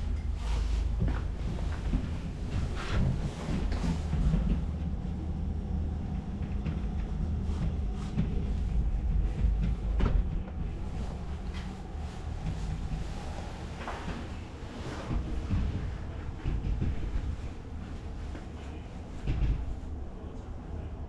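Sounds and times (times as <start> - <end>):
low mechanical rumble: 0.0 - 21.0.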